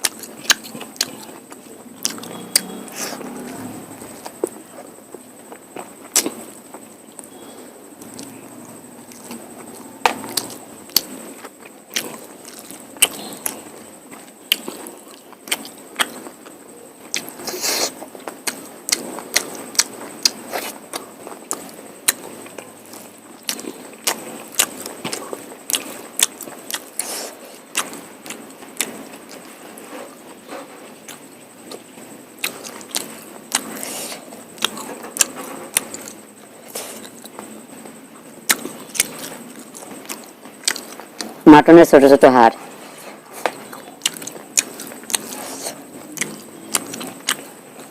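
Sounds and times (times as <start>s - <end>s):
chewing: 0.0s - 4.9s, 9.0s - 37.9s, 38.5s - 41.4s, 42.9s - 47.9s.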